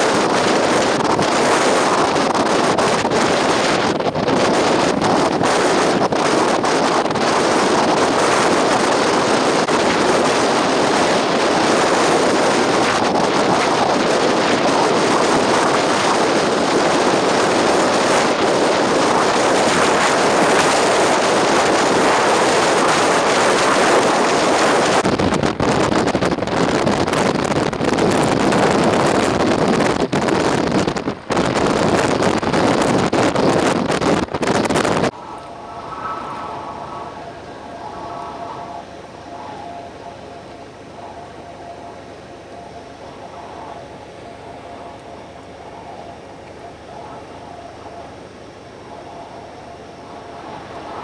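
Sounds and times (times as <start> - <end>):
storm wind on microphone: 0.0 - 51.0.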